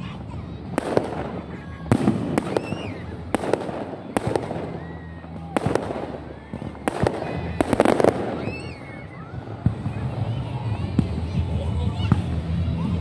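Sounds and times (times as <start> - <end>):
fireworks cracking and popping: 0.0 - 12.6.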